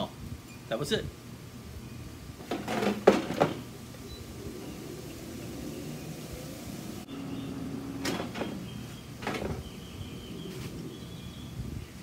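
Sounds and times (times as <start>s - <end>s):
steady low hum: 1.1s - 12.0s.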